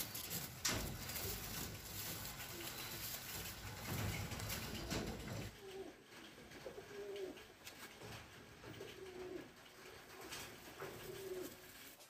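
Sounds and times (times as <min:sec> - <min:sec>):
pigeons cooing: 0:00.0 - 0:11.8.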